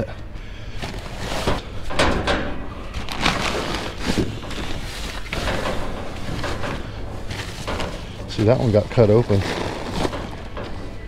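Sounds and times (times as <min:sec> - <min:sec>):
steady low hum: 0:00.0 - 0:11.0
knocks and rustles of packages: 0:00.7 - 0:11.0.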